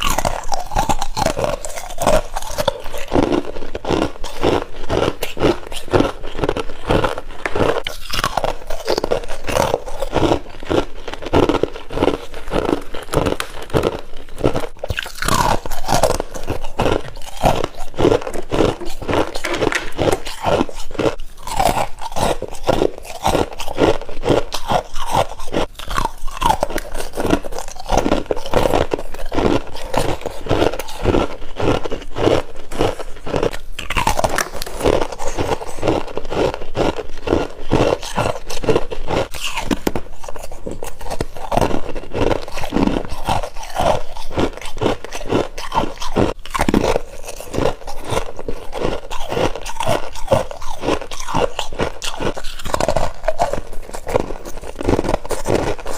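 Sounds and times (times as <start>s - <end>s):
person chewing frost crunching: 0.0s - 55.9s.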